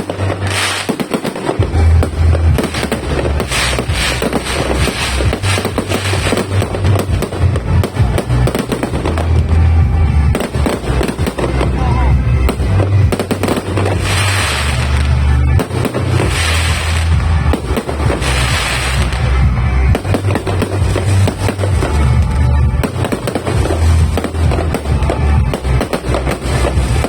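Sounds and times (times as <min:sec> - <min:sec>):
fireworks crackling: 0:00.0 - 0:27.0
fireworks popping and booming: 0:00.0 - 0:27.0
music: 0:00.0 - 0:27.0.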